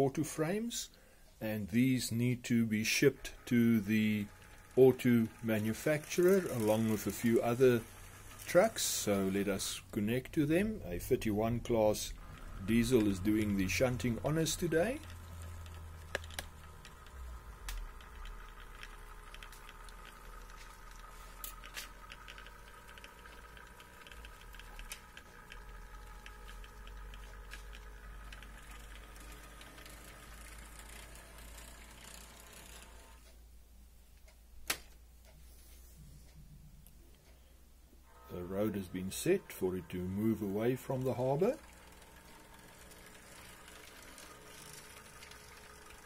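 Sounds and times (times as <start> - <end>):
model train motor whine: 2.6 - 33.3, 38.1 - 46.0
model train wheels clicking: 2.6 - 33.4, 38.1 - 46.0.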